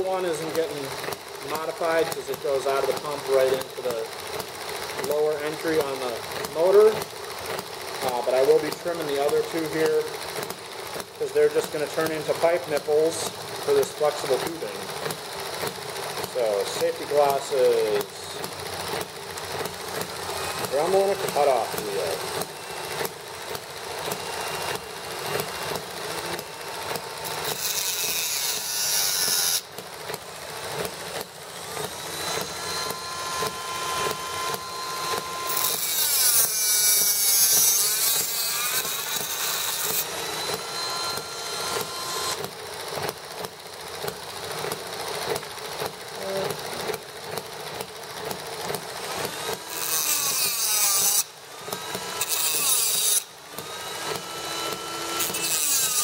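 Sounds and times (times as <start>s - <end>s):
cut-off wheel grinding metal pipes: 0.0s - 56.0s
rotary tool motor whining: 0.0s - 56.0s.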